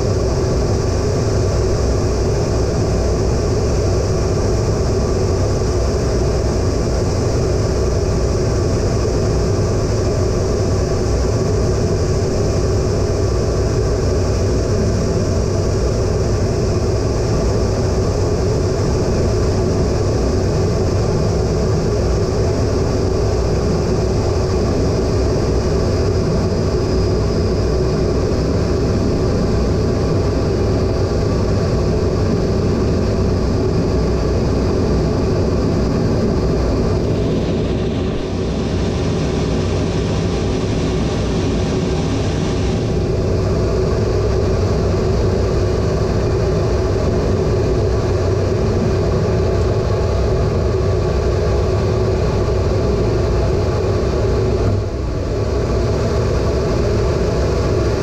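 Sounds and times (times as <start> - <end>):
jet engines droning: 0.0 - 58.0
steady whining tones: 0.0 - 58.0.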